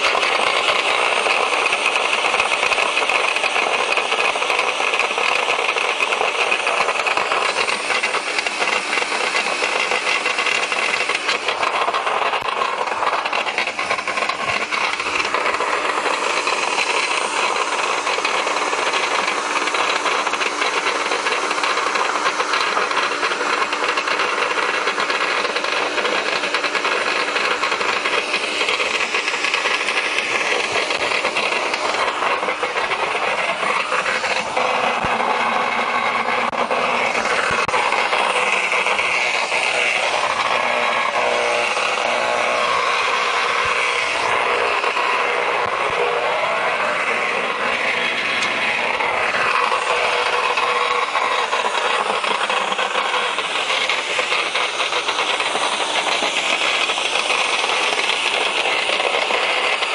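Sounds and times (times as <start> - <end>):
garden shredder grinding branch: 0.0 - 59.9.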